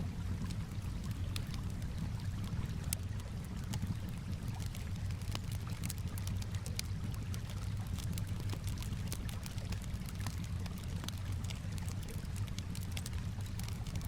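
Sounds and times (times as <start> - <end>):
calm water: 0.0 - 14.0
wood fire crackling and popping: 0.0 - 14.0.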